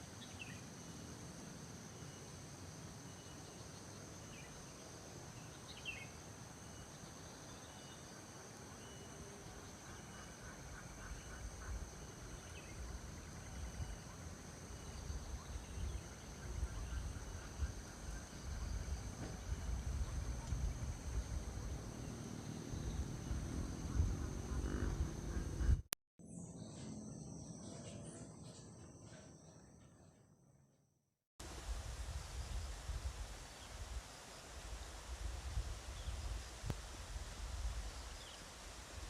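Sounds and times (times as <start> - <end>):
crickets and insects chirring: 0.0 - 25.8, 31.4 - 39.0.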